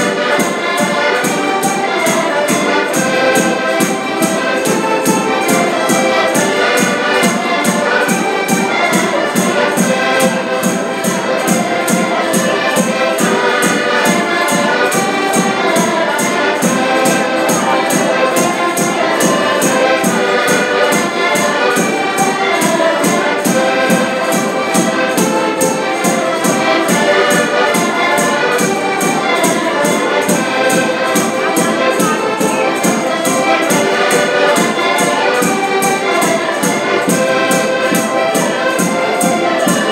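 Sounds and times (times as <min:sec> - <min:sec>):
accordions playing a folk tune: 0:00.0 - 0:39.9.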